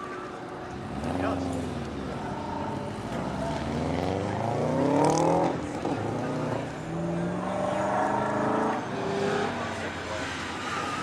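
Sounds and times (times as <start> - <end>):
car engine revving: 0.8 - 11.0.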